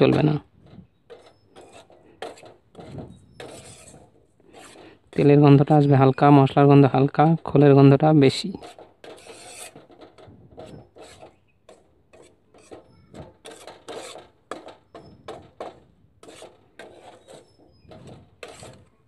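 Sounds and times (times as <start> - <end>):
metal spatula scraping a pan: 0.0 - 19.0.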